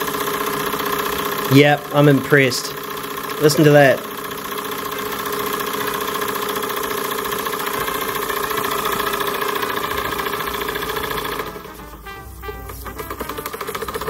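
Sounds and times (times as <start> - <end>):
model steam engine running: 0.0 - 14.0.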